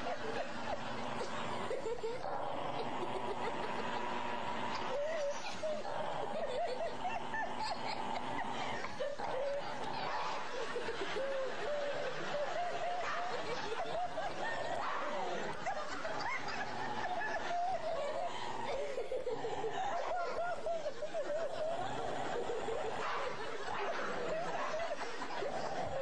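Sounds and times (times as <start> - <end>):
people laughing: 0.0 - 26.0.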